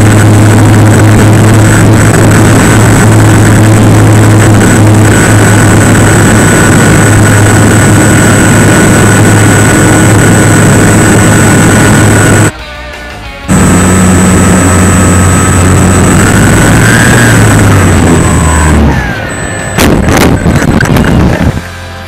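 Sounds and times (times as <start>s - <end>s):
model plane motor drone: 0.0s - 12.5s, 13.5s - 21.7s
rushing air: 0.0s - 12.5s, 13.5s - 21.7s.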